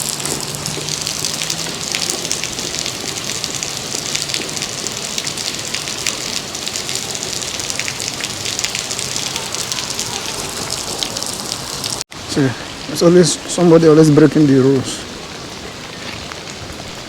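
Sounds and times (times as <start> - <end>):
heavy rain falling: 0.0 - 17.0
raindrops ticking close by: 0.0 - 17.0.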